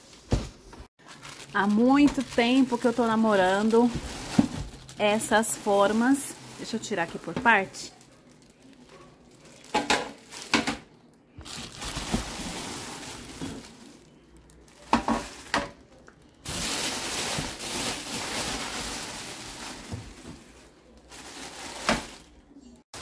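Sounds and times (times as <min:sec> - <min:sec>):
plastic bags rustling and crinkling: 0:00.0 - 0:23.0.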